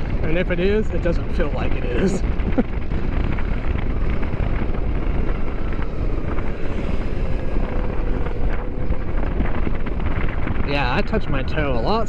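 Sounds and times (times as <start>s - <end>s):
faint electric motor whine: 0.0s - 12.0s
road noise: 0.0s - 12.0s
wind buffeting microphone: 0.0s - 12.0s.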